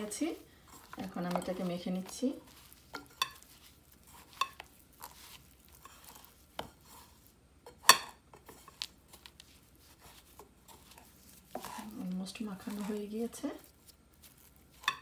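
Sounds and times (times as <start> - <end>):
soft patting and rubbing: 0.0 - 7.4, 8.4 - 15.0.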